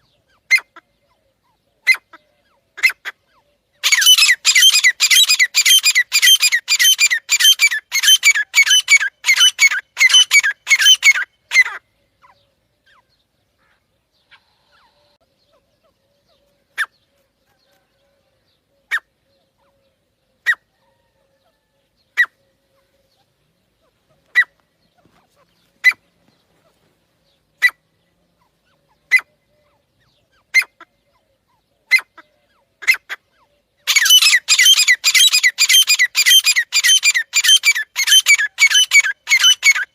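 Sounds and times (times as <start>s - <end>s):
francolin calling: 0.0s - 17.2s, 17.8s - 39.9s.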